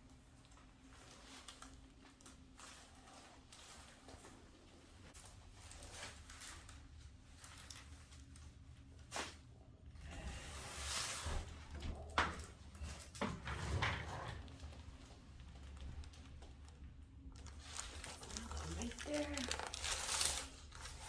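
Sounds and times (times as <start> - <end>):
rustling: 0.8 - 9.5, 10.1 - 21.0.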